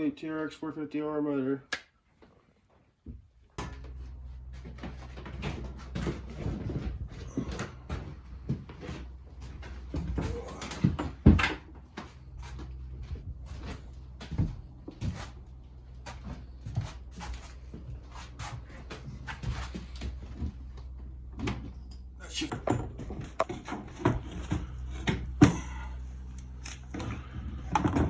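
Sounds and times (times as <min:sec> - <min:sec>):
steady low hum: 0:03.3 - 0:28.0
engine parts knocking and clunking: 0:03.6 - 0:28.0.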